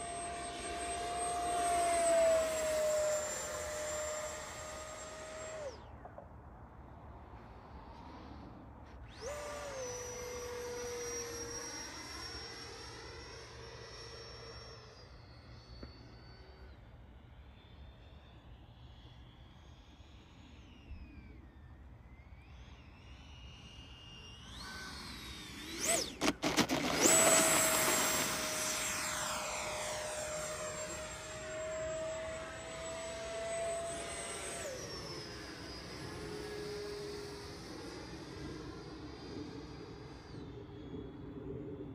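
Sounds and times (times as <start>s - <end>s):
electric ducted fan whining: 0.0s - 41.9s.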